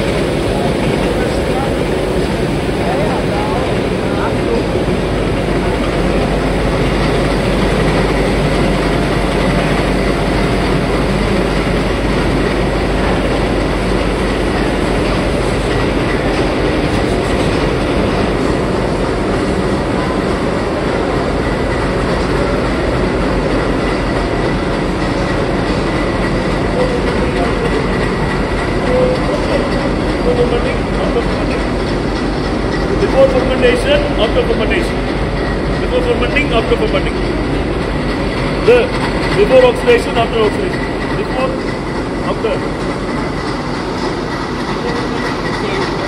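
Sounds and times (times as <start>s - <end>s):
machinery clattering over hum: 0.0s - 46.0s.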